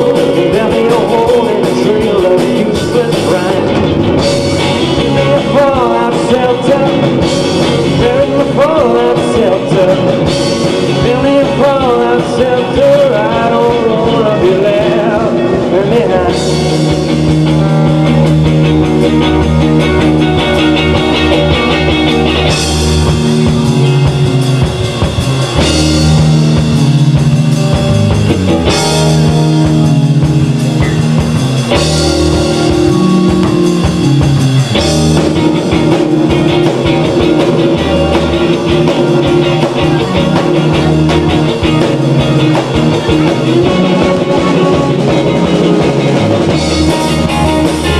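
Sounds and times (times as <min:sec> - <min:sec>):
drum kit: 0:00.0 - 0:47.9
electric guitars: 0:00.0 - 0:47.9.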